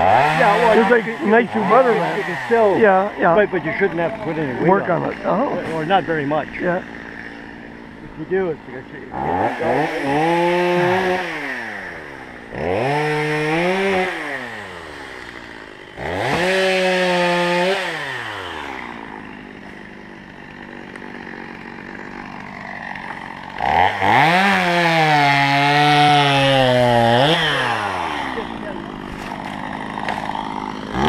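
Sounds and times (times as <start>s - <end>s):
chainsaw idling: 0.0s - 31.0s
two-stroke chainsaw revving: 0.0s - 31.0s.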